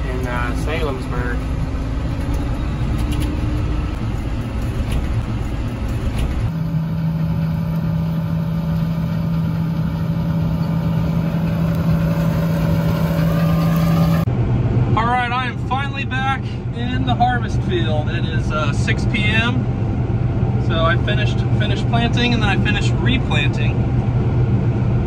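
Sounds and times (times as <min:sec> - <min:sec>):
combine harvester low drone: 0:00.0 - 0:25.0
tractor engine driving: 0:00.0 - 0:25.0.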